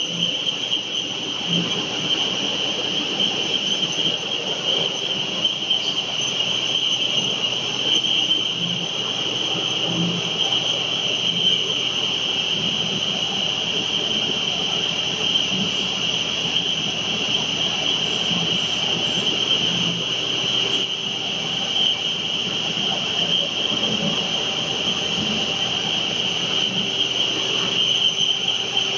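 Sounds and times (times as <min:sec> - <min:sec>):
machine high-pitched whirring hiss: 0:00.0 - 0:28.9.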